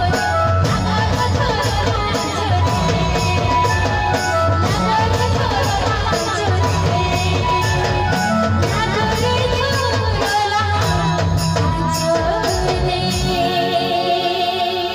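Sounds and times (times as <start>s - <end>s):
drums: 0.0s - 14.9s
keyboard: 0.0s - 14.9s
woman singing into a microphone: 0.0s - 14.9s.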